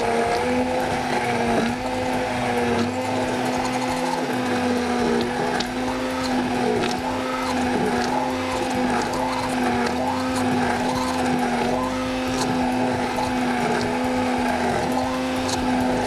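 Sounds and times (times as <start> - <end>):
electric blender running: 0.0 - 16.0.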